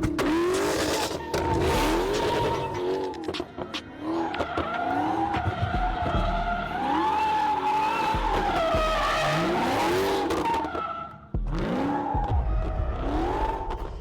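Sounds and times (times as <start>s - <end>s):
engine revving: 0.0s - 3.3s, 3.9s - 10.8s, 11.4s - 14.0s.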